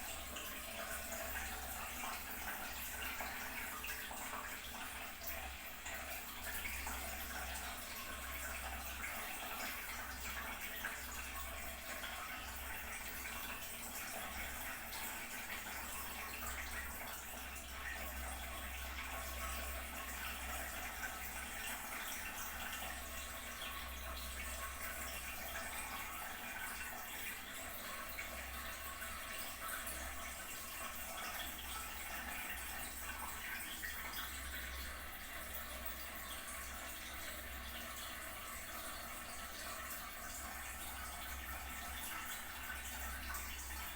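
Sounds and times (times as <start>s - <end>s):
water running into toilet cistern: 0.0s - 43.9s.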